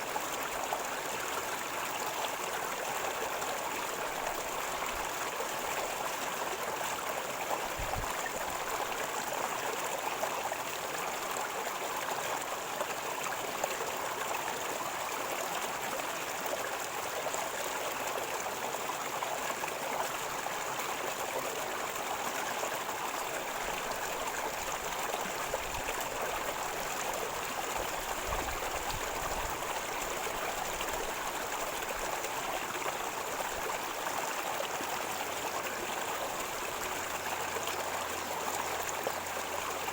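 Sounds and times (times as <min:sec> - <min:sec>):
river water flowing over stones: 0:00.0 - 0:39.9.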